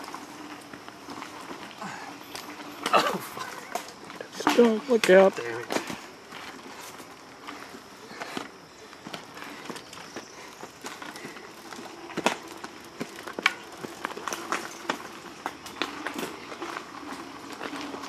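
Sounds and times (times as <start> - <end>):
bike tyres and drivetrains rattling: 0.0 - 18.0.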